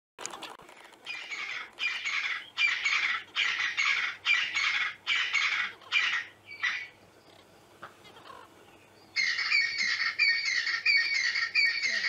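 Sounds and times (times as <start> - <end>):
bird harsh rasping calls: 1.1 - 8.6, 9.2 - 12.0.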